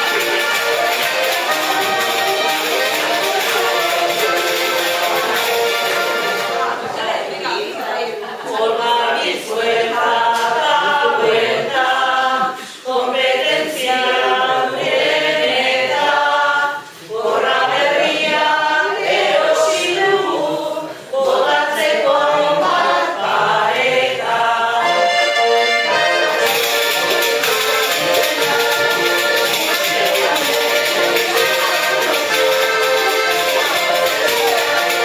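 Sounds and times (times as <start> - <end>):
group of voices singing: 0.0 - 35.0.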